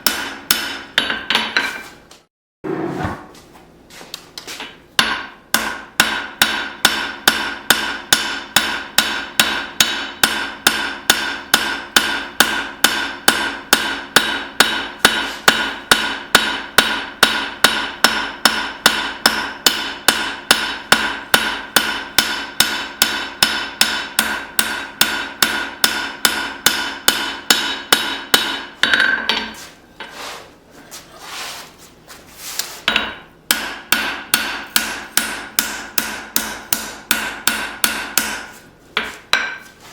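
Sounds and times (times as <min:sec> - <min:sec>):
hammer striking steel on anvil: 0:00.0 - 0:01.9, 0:04.6 - 0:29.6, 0:32.9 - 0:39.8.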